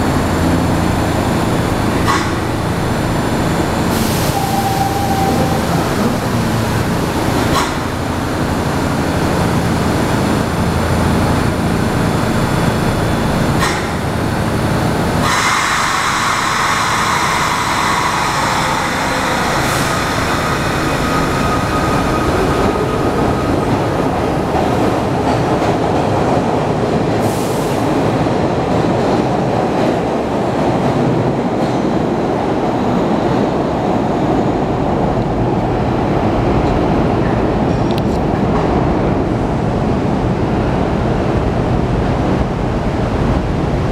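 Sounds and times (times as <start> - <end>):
subway train low hum: 0.0 - 43.9
wheels rumbling on rails: 0.0 - 43.9.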